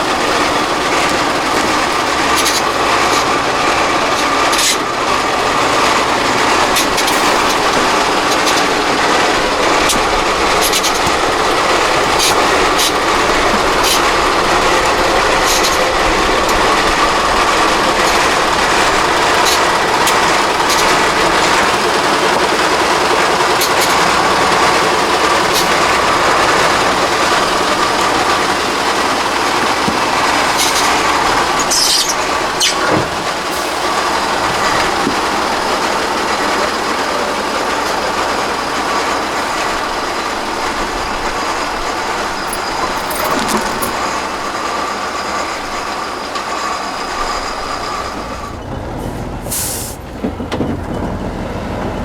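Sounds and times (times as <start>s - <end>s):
truck diesel engine under load: 0.0s - 52.0s.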